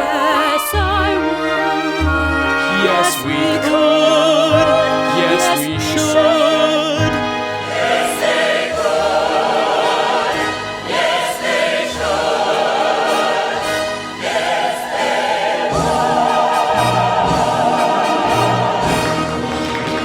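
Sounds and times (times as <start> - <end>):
pit orchestra playing: 0.0 - 20.0
singers holding notes with vibrato: 0.0 - 20.0.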